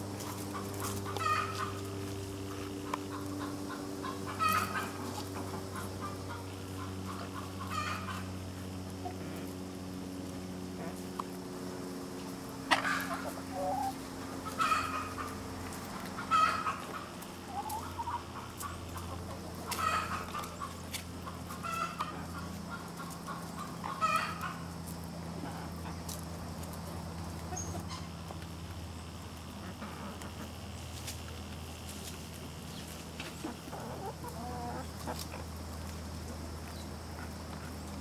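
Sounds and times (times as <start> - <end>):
chickens clucking: 0.0 - 38.0
steady low hum: 0.0 - 38.0.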